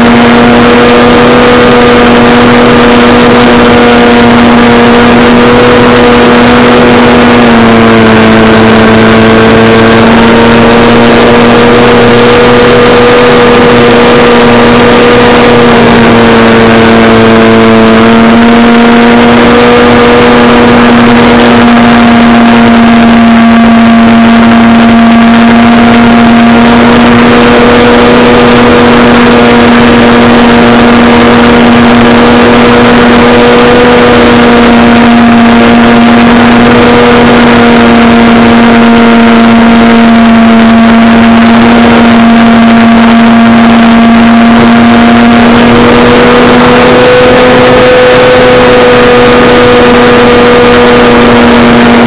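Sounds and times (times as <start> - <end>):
model plane motor and propeller: 0.0 - 52.0.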